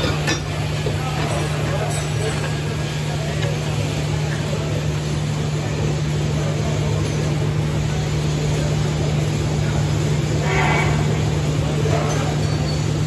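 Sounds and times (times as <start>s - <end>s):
machinery hum with hiss: 0.0s - 13.0s.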